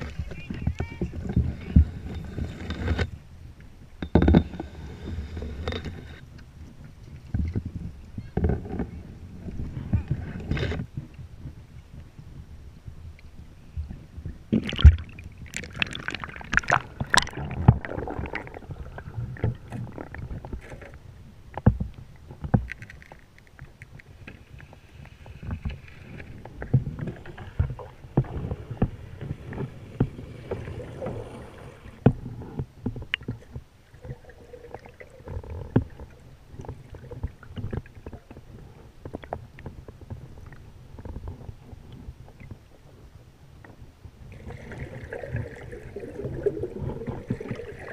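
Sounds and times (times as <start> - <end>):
muffled underwater sloshing: 0.0 - 47.9
low underwater rumble: 6.3 - 22.9, 24.1 - 47.9.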